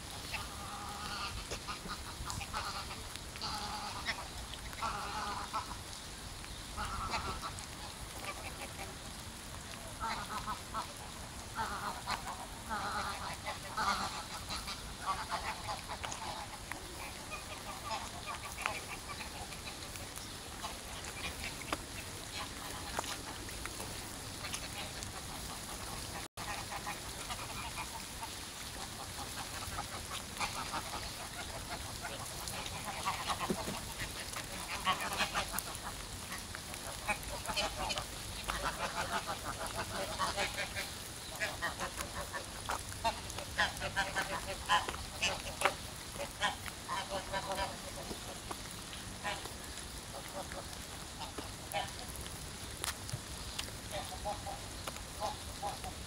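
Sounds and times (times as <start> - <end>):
background hiss: 0.0 - 56.0
geese honking: 0.1 - 5.8, 6.8 - 8.9, 10.0 - 48.5.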